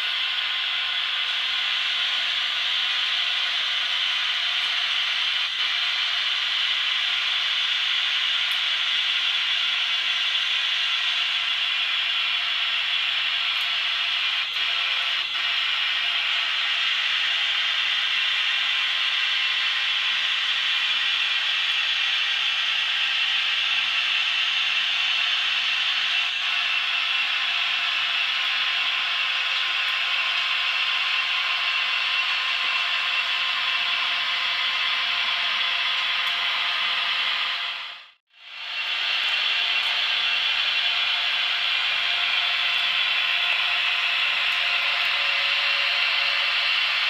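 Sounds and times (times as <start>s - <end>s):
model train rolling hiss: 0.0s - 47.0s.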